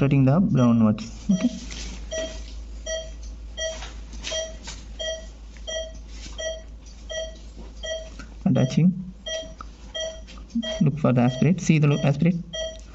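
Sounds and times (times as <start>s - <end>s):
pulse oximeter beeps: 1.3s - 12.9s.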